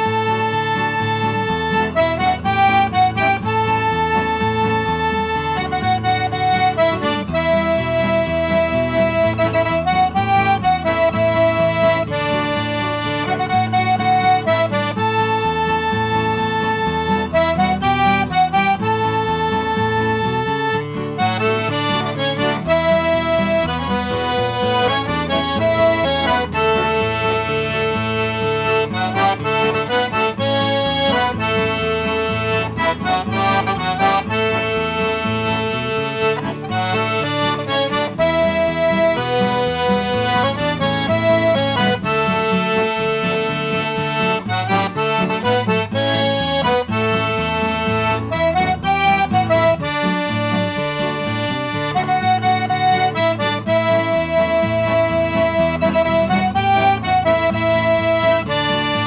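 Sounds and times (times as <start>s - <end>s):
acoustic guitar accompaniment: 0.0s - 59.0s
button accordion playing a waltz: 0.0s - 59.0s.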